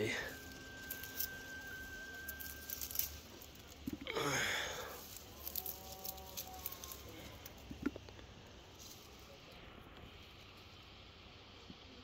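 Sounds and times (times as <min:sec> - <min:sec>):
leaves and branches rustling: 0:00.0 - 0:12.0.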